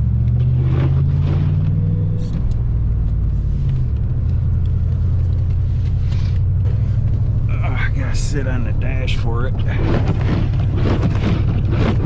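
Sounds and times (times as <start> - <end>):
truck engine drone from inside cab: 0.0 - 12.0.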